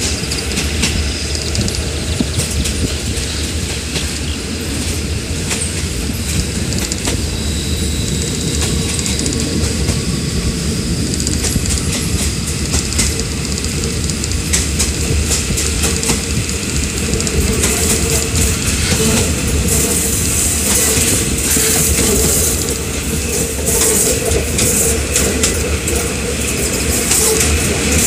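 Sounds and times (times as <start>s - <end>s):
clacks over rail joints: 0.0s - 7.3s, 8.0s - 10.0s, 11.1s - 28.0s
train wheels rumbling on rails: 0.0s - 28.0s.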